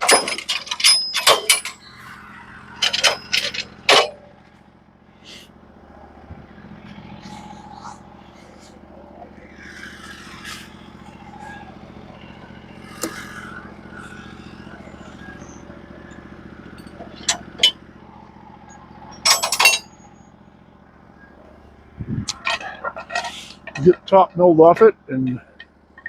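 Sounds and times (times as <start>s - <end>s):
sawmill engine idling: 0.0s - 26.0s.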